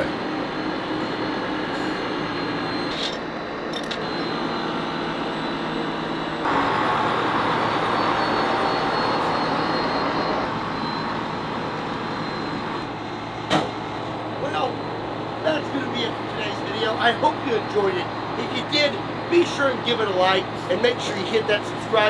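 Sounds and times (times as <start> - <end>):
crane truck engine running: 0.0 - 22.0.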